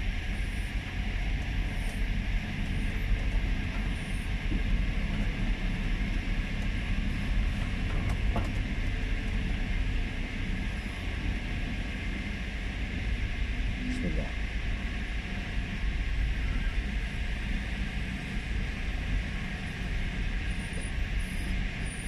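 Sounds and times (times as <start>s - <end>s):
road noise on dirt road: 0.0s - 22.0s
vehicle engine rumble: 0.0s - 22.0s.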